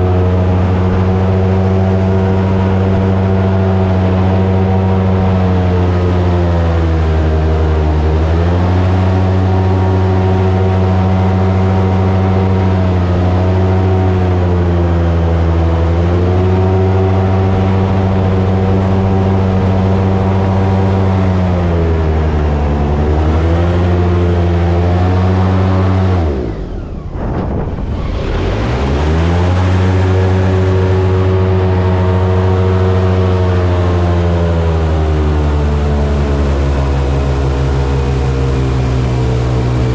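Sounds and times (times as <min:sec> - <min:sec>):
airboat engine and propeller: 0:00.0 - 0:39.9.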